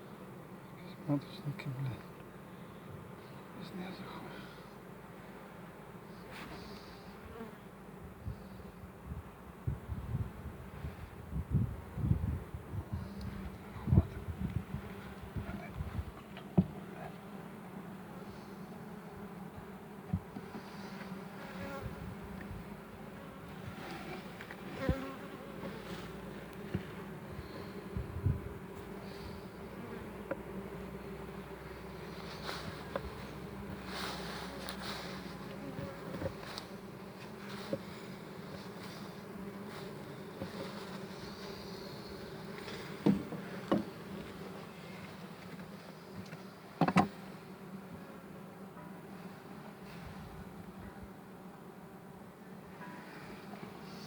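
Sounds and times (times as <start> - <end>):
bees buzzing: 10.4 - 54.0.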